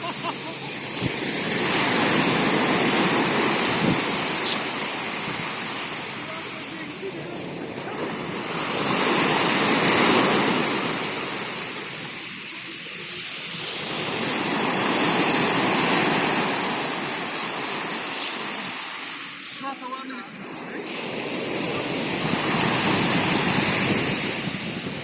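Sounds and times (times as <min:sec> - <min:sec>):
sea waves washing ashore: 0:00.0 - 0:25.0.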